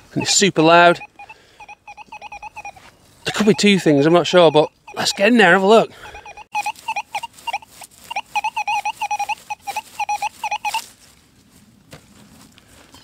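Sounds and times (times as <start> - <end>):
metal detector warbling beeps: 0.0 - 10.9.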